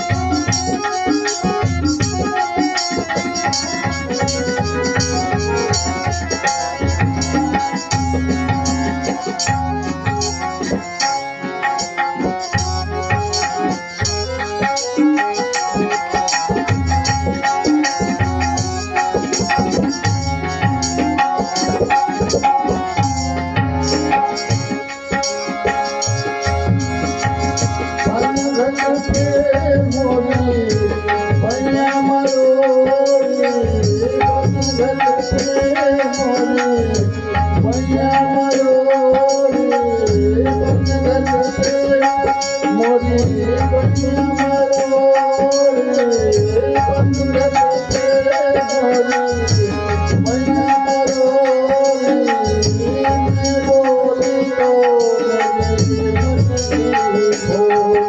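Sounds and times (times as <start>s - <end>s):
hand drums beating: 0.0s - 58.0s.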